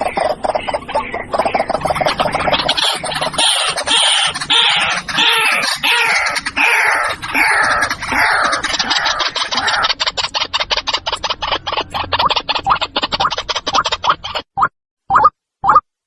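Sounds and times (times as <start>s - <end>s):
bird calling harshly: 0.0s - 14.4s
rapid ticking: 0.0s - 14.4s.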